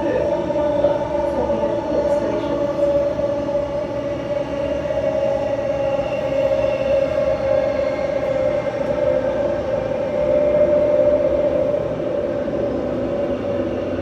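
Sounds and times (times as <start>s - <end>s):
electric train whine: 0.0s - 14.0s.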